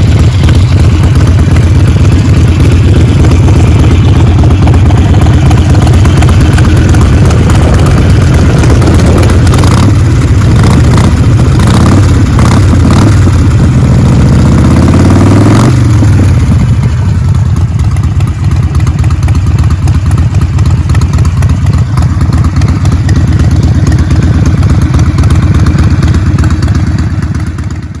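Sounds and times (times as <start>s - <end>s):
lumpy pulsing engine idle: 0.0s - 28.0s
motorcycle engine revving: 0.0s - 28.0s.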